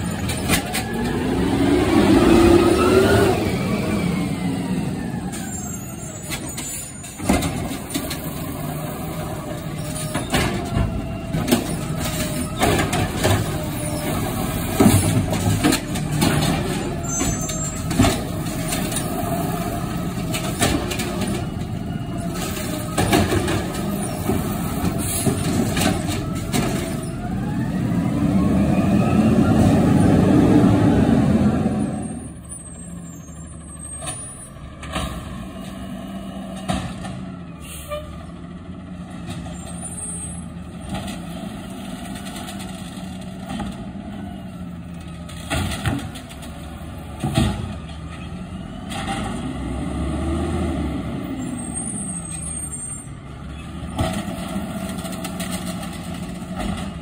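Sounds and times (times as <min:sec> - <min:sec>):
garbage truck engine: 0:00.0 - 0:57.0.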